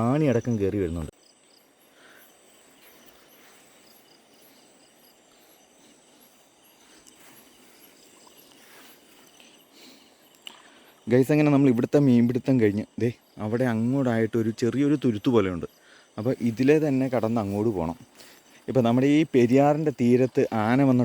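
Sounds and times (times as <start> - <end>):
insect chirps: 0.0 - 21.0
night insects whining: 0.0 - 21.0
soft background hiss: 0.0 - 21.0.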